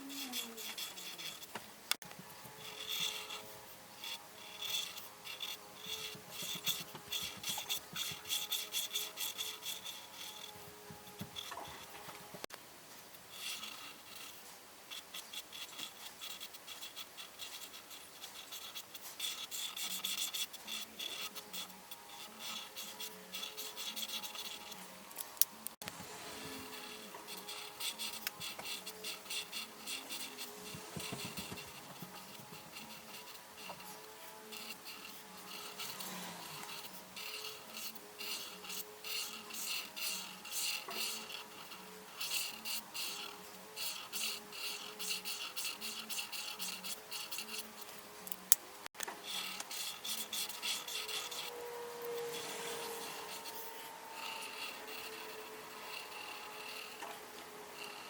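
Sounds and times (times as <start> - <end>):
coloring tool scratching on paper: 0.0 - 12.5, 13.3 - 58.0.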